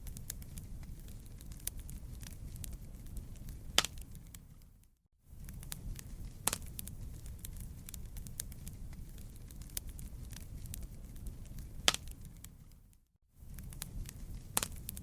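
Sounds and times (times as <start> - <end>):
campfire crackling: 0.0 - 15.0
loud fire snaps: 0.0 - 15.0.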